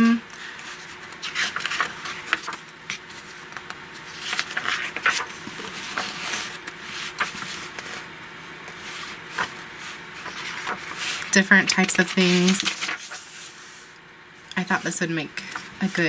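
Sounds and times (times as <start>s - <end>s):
magazine pages being turned: 0.4s - 8.1s, 8.7s - 13.9s.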